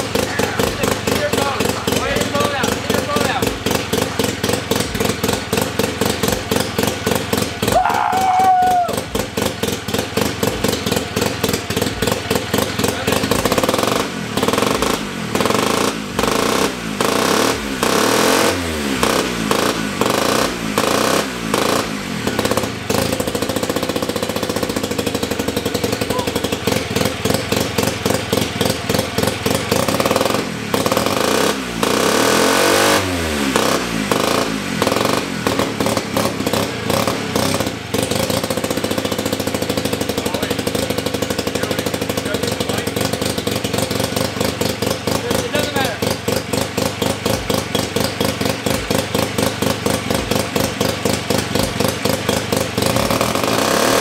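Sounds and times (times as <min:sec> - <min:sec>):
rotary engine running and revving: 0:00.0 - 0:54.0.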